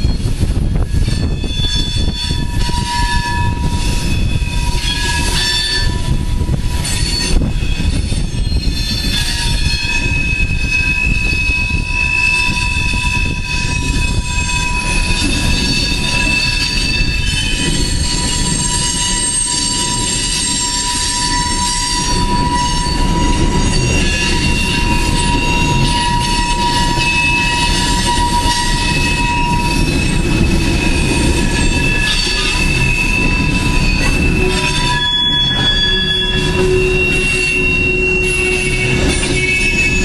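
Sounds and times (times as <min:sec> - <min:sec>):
high-pitched wheel squeal: 0:00.0 - 0:40.0
train cars clanking: 0:00.0 - 0:40.0
train wheels rumbling on rails: 0:00.0 - 0:40.0.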